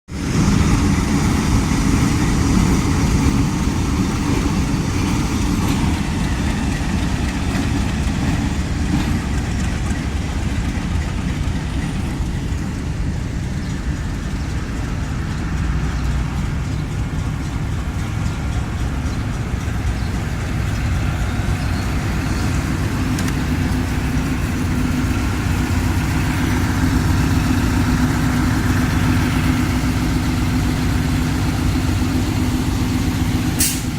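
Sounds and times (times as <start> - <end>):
diesel locomotive engine running: 0.1 - 33.9.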